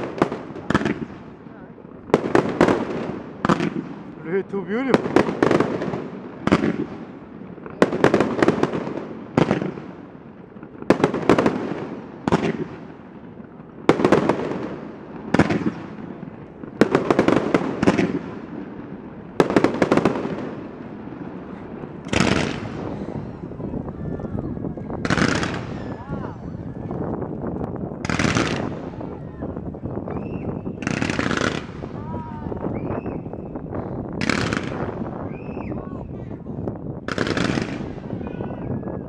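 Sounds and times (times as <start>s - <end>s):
fireworks banging and crackling: 0.0s - 39.0s
softer smoother firework bursts: 0.0s - 39.0s.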